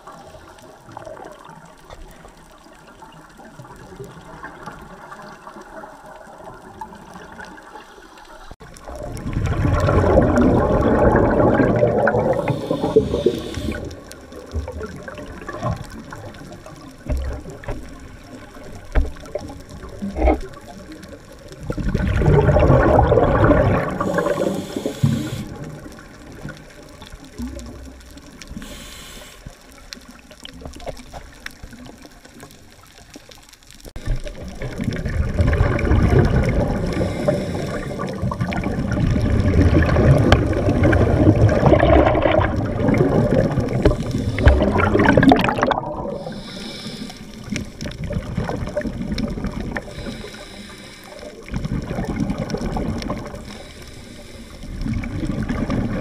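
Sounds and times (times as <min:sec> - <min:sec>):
underwater water noise: 0:00.0 - 0:56.0
underwater breathing bubbles: 0:04.1 - 0:30.2, 0:34.0 - 0:56.0.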